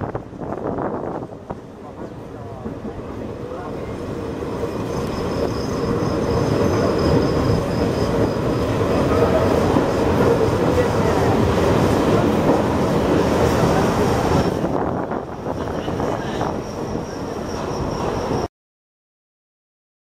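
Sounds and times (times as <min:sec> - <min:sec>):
train wheels and wind rumbling: 0:00.0 - 0:18.5.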